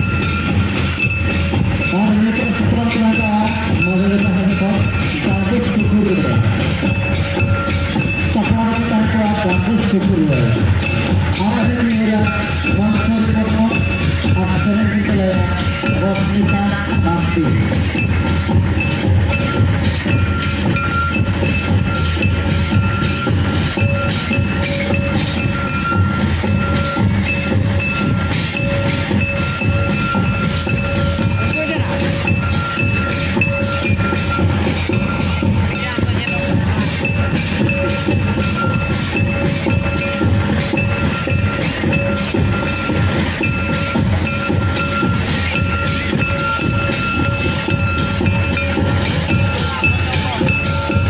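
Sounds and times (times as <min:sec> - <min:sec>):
hand drums dance rhythm: 0:00.0 - 0:51.0
high held tone: 0:00.0 - 0:51.0.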